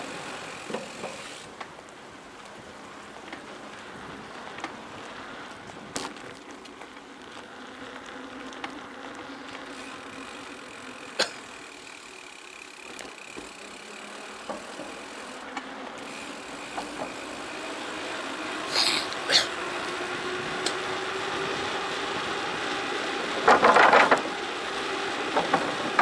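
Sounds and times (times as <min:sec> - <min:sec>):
tyres rolling on gravel: 0:00.0 - 0:26.0.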